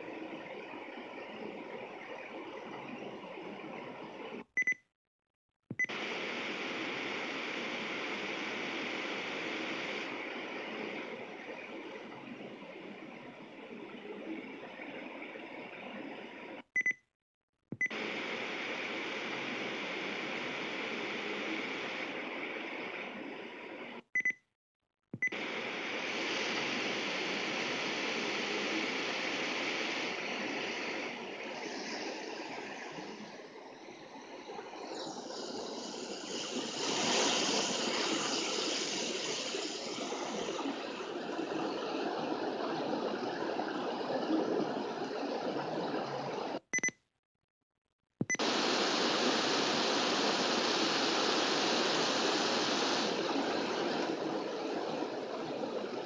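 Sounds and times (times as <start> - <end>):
radio static hiss: 0.0 - 4.4, 5.9 - 16.6, 17.9 - 24.0, 25.3 - 46.6, 48.3 - 56.0.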